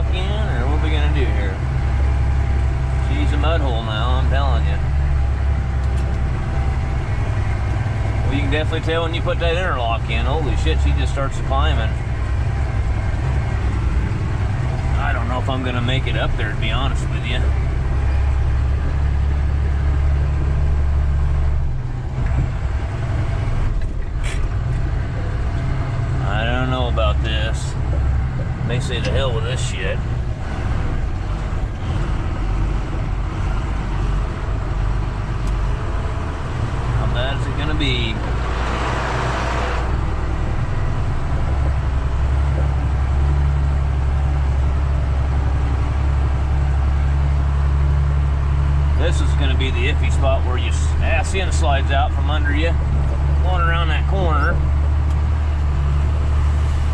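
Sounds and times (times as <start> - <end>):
vehicle engine working hard: 0.0 - 56.9.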